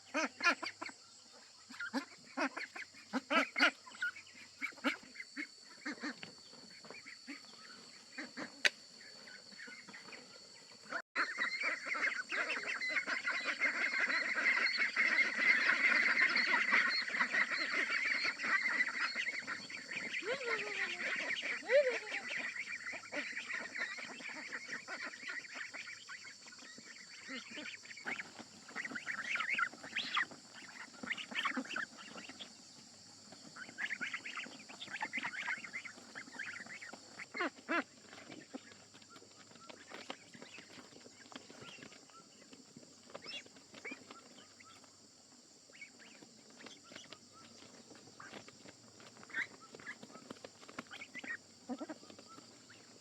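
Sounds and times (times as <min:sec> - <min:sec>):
domestic fowl calling: 0:00.0 - 0:42.4, 0:45.7 - 0:53.0.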